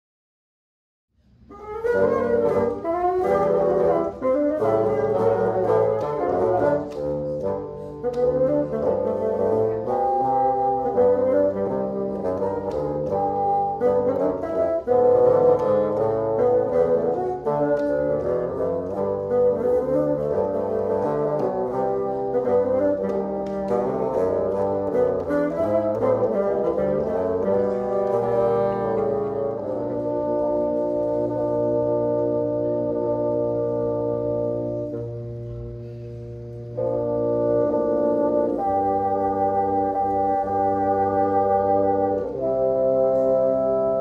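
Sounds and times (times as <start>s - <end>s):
bassoon quartet playing: 1.2s - 44.0s.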